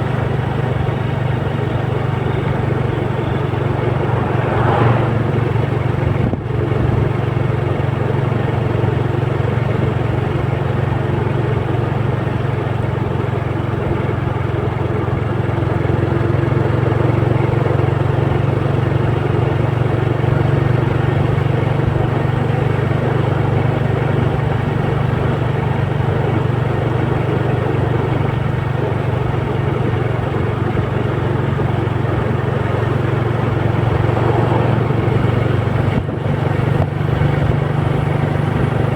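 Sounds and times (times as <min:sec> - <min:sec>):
road noise: 0:00.0 - 0:38.9
vehicle engine running: 0:00.0 - 0:38.9.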